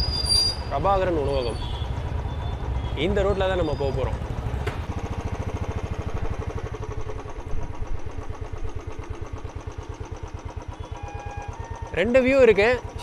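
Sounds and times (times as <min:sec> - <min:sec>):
motorcycle engine idling: 0:00.6 - 0:13.0.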